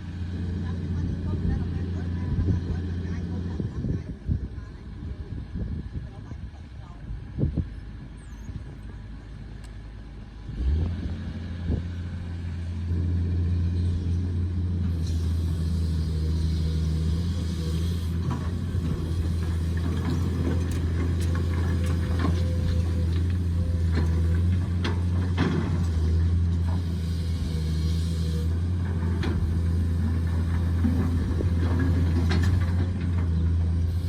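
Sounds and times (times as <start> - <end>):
excavator diesel engine drone: 0.0 - 34.0.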